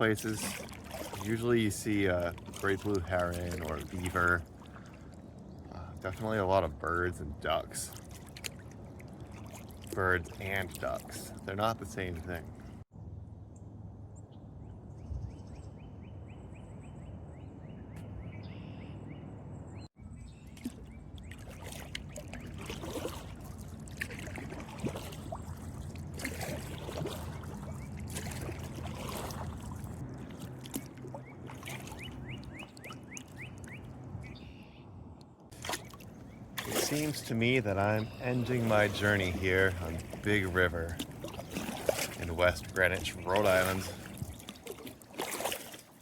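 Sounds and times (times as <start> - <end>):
paddle strokes splashing: 0.0 - 12.8, 20.5 - 34.2, 35.5 - 46.0.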